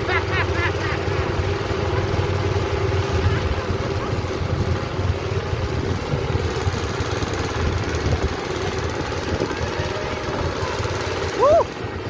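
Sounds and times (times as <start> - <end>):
harvester engine chugging: 0.0 - 12.0.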